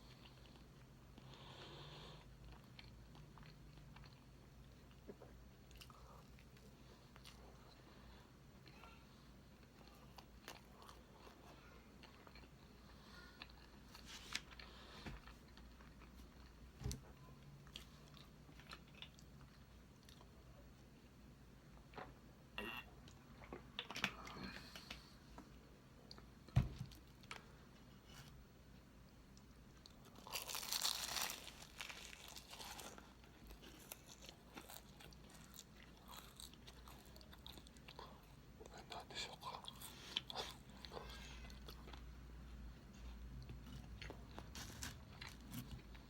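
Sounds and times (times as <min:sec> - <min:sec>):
soft chewing: 0:00.0 - 0:22.3, 0:23.0 - 0:46.0.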